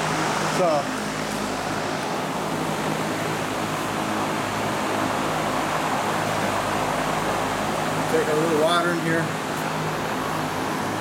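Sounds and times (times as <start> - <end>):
fans rushing air: 0.0 - 11.0.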